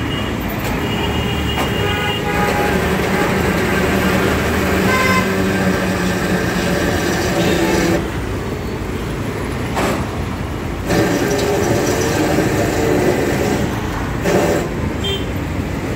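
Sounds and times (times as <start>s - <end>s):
street traffic: 0.0s - 15.9s.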